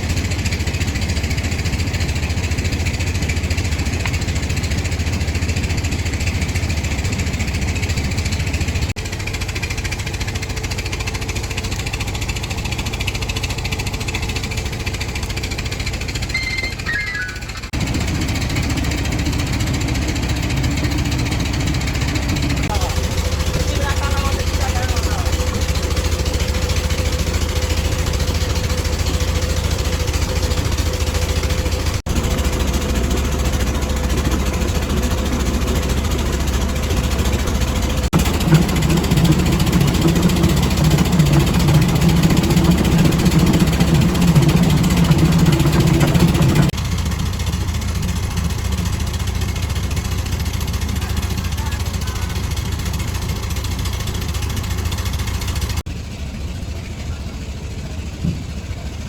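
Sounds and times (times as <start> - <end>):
deep drone: 0.0 - 59.0
heavy machinery humming: 0.0 - 59.0.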